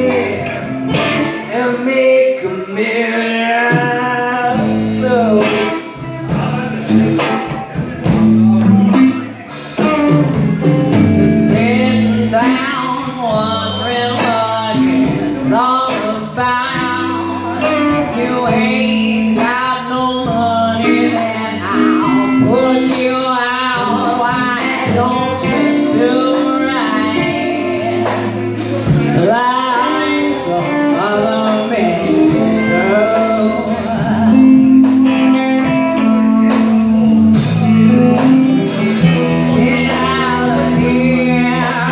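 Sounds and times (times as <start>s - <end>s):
woman singing: 0.0s - 9.2s, 11.2s - 41.9s
blues band playing: 0.0s - 41.9s.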